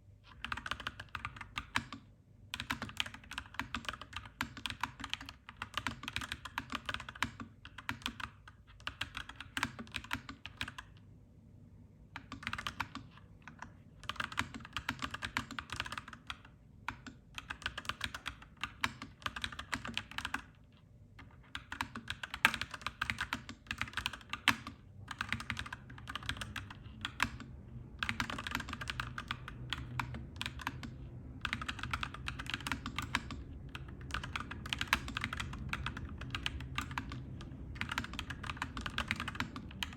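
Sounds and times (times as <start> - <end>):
mechanical keyboard typing: 0.2 - 11.0, 12.1 - 39.9.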